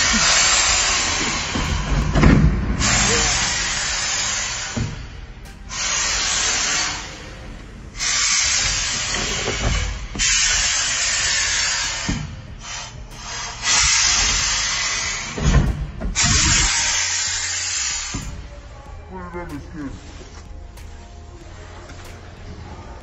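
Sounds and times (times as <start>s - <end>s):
water spray nozzle hissing: 0.0s - 2.0s, 2.8s - 7.3s, 8.0s - 21.0s.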